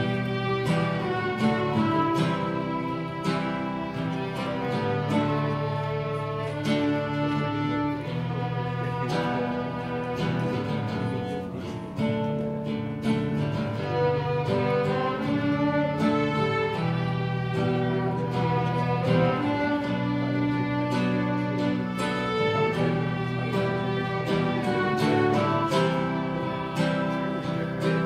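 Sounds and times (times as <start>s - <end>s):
low sustained string notes: 0.0s - 28.0s
violins playing slow melody: 0.0s - 28.0s.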